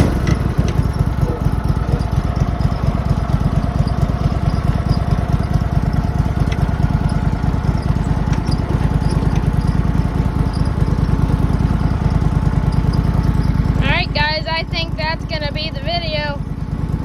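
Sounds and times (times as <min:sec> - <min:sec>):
small tractor engine running: 0:00.0 - 0:17.0.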